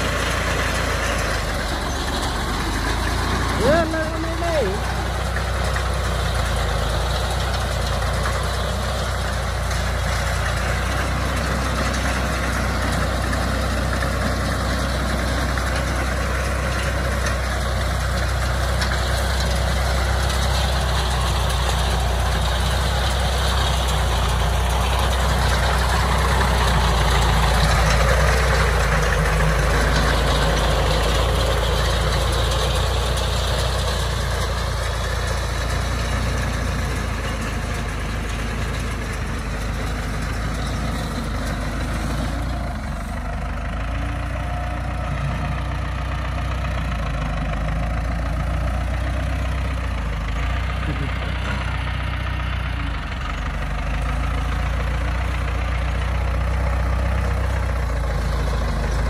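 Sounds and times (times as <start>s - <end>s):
baler machinery working: 0.0s - 47.3s
tractor diesel engine running: 0.0s - 59.0s.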